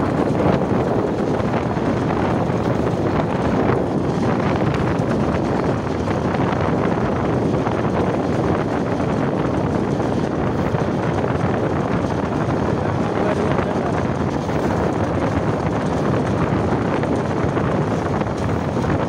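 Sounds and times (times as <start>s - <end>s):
train wheels rumbling: 0.0s - 19.0s
wind buffeting microphone: 0.0s - 19.0s.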